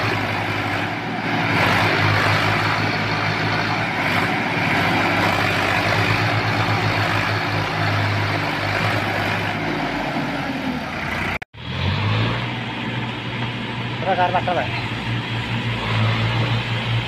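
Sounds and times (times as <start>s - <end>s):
tractor diesel engines running: 0.0s - 17.0s.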